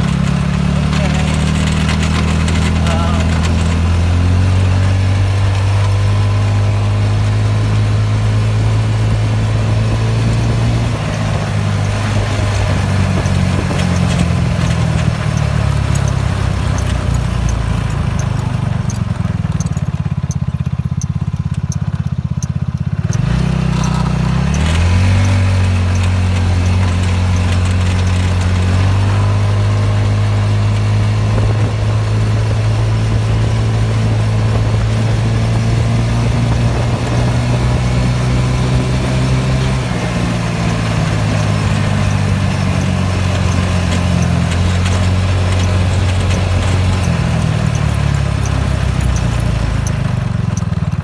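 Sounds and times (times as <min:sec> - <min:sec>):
go-kart engine running: 0:00.0 - 0:51.0.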